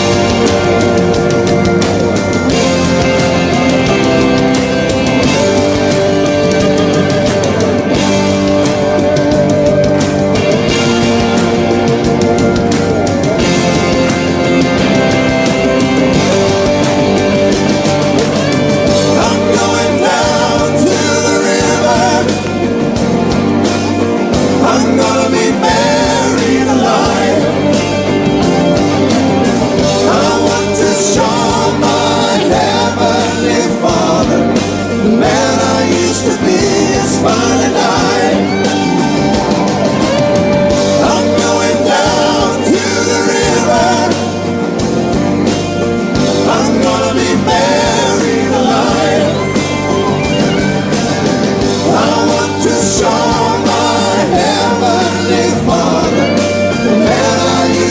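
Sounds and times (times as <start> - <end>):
rock song with singing: 0.0 - 57.9.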